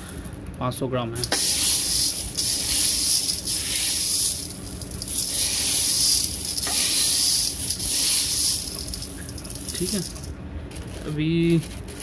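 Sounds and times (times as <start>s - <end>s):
dry beans rustling in a pot: 1.2s - 12.0s.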